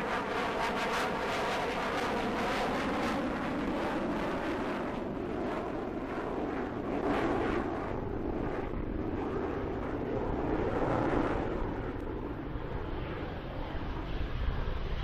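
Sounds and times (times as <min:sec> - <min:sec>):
jet airliner engines: 0:00.0 - 0:15.0.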